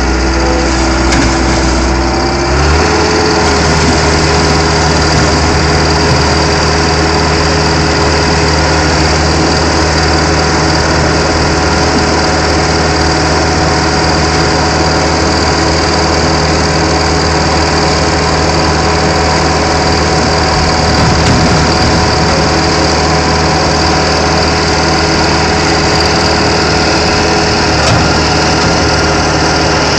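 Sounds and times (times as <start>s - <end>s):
auger pushing out mulch: 0.0s - 29.9s
machine engine running under load: 0.0s - 29.9s.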